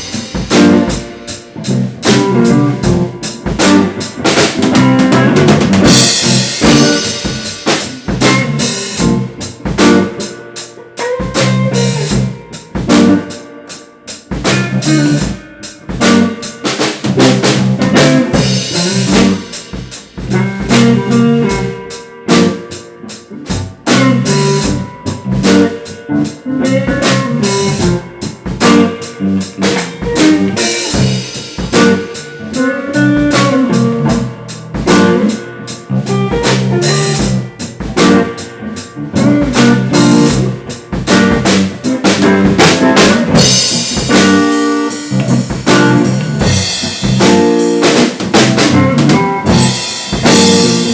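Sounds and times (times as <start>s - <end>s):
bass guitar: 0.0s - 50.9s
drum kit beat: 0.0s - 50.9s
electric guitar: 0.0s - 50.9s.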